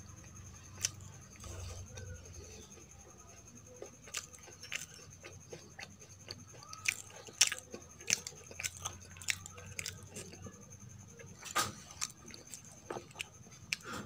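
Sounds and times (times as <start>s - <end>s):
close chewing with mouth clicks: 0.2s - 14.0s.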